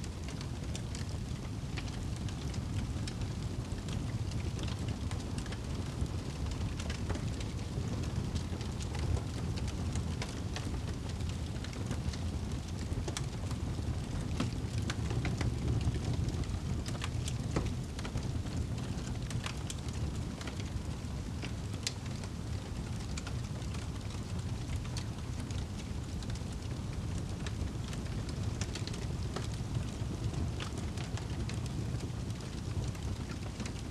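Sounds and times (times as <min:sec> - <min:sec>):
campfire crackling: 0:00.1 - 0:33.9
fire pops and snaps: 0:00.1 - 0:33.9.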